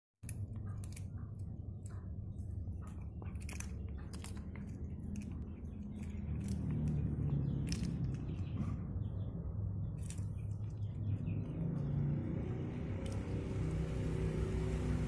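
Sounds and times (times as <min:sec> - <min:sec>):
cat chewing and crunching: 0:00.2 - 0:15.0
low hum: 0:00.2 - 0:15.0.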